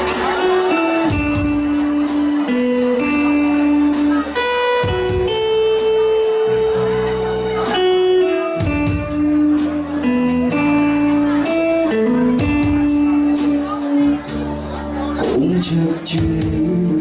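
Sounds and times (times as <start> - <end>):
bass: 0.0 - 17.0
drum beat: 0.0 - 17.0
guitar lead melody: 0.0 - 17.0.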